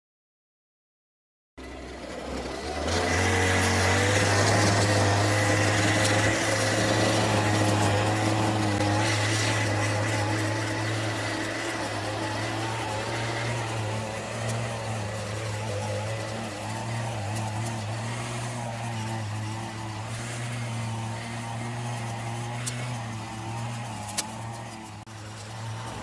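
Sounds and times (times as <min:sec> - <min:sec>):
brush cutter engine revving: 0:01.6 - 0:26.0.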